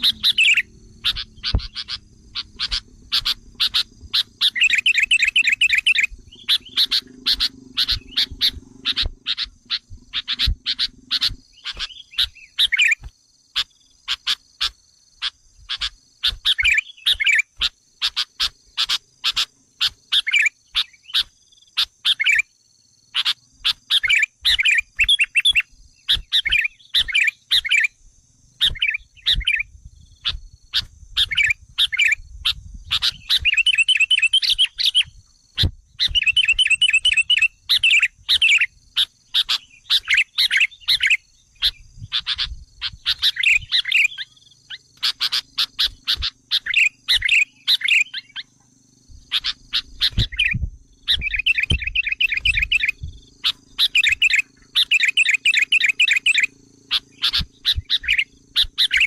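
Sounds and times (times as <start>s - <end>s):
bulbuls chirping and trilling: 0.0s - 22.5s, 23.1s - 59.0s.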